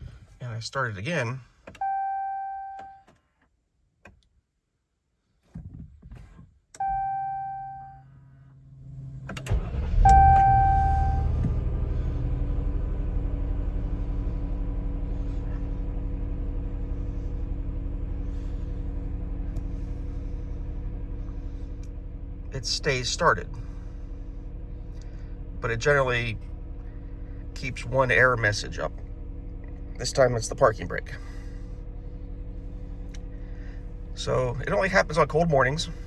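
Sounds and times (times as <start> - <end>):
car engine idling: 6.8 - 36.0.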